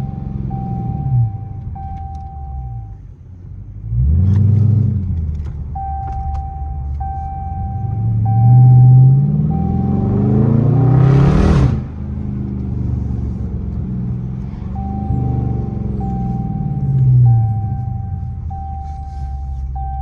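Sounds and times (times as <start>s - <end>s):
car engine revving: 0.0s - 2.4s, 3.8s - 20.0s.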